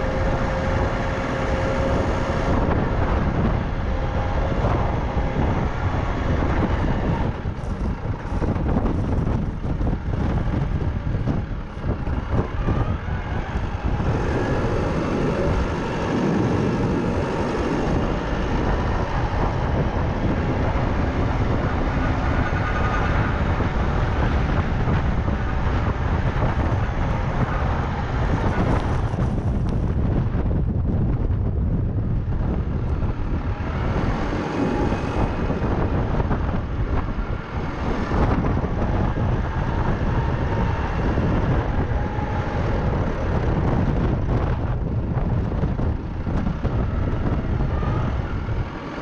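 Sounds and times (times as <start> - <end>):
small tractor engine running: 0.0 - 49.0
wind noise on microphone: 0.0 - 49.0.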